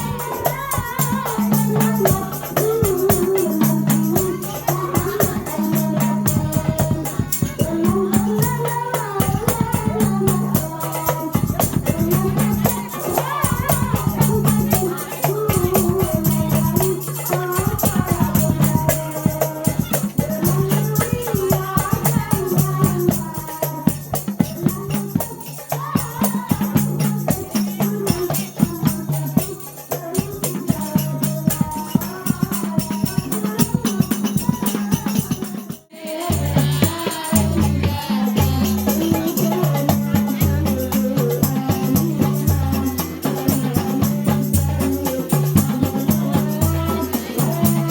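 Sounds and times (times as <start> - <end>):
frame drums beaten fast: 0.0 - 47.9
jingling percussion: 0.0 - 47.9
voices singing a melody: 0.0 - 47.9.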